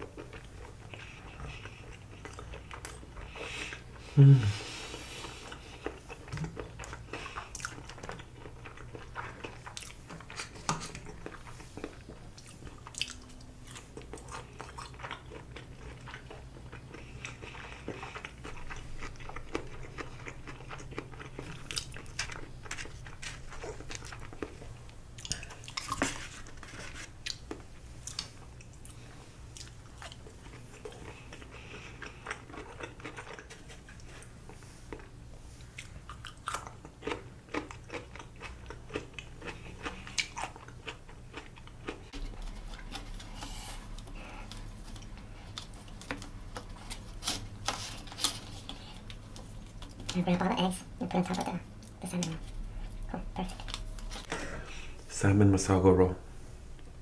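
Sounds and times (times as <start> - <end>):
person chewing food: 0.0 - 50.2.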